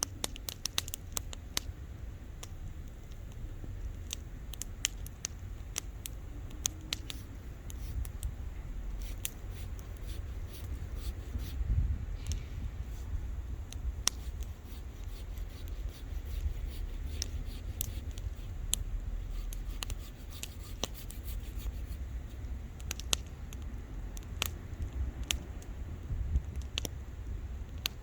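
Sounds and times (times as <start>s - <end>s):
bonfire crackling and popping: 0.0s - 28.0s
low steady rumble: 0.0s - 28.0s.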